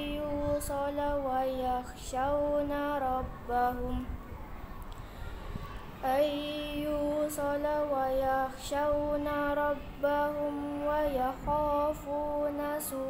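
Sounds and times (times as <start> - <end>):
girl chanting melodically: 0.0 - 4.4, 5.0 - 13.0.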